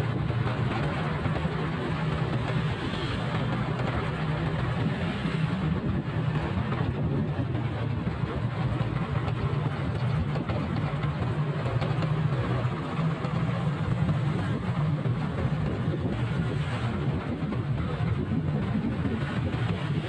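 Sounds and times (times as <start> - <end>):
motorcycle engine running: 0.0 - 20.0
road noise: 0.0 - 20.0
wind noise: 0.0 - 20.0.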